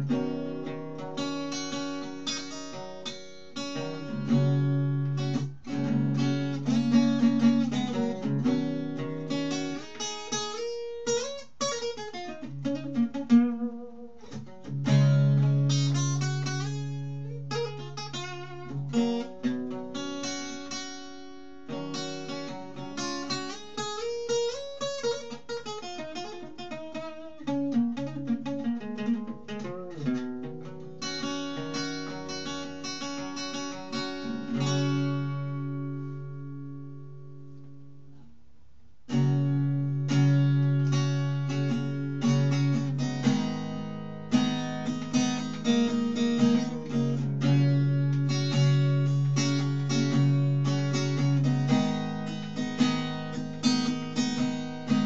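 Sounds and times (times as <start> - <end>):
acoustic guitar strumming: 0.0 - 38.4, 39.0 - 55.0.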